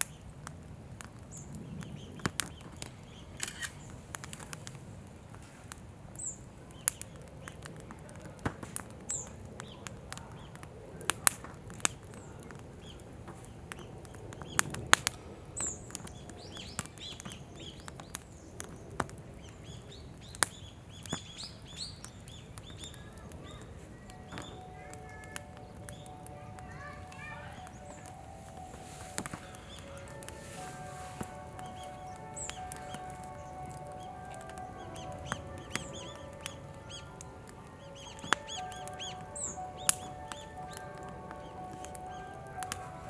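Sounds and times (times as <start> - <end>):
campfire crackling and popping: 0.0 - 43.0
small birds chirping: 1.2 - 4.8, 9.0 - 43.0.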